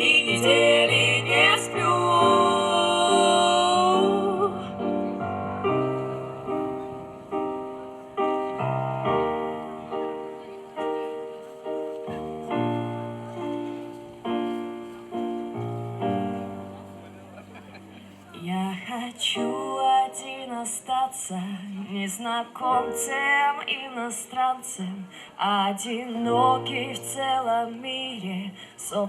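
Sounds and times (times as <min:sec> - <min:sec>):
piano chords: 0:00.0 - 0:25.0, 0:26.0 - 0:29.0.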